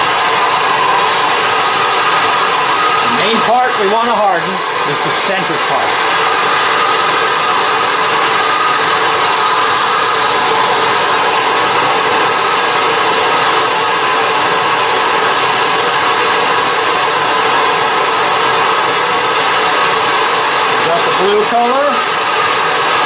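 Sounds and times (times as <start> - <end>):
torch flame hissing: 0.2 - 23.0.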